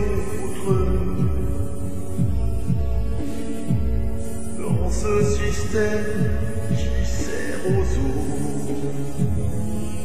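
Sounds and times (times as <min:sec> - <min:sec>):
deep low drum beats: 0:00.0 - 0:08.4.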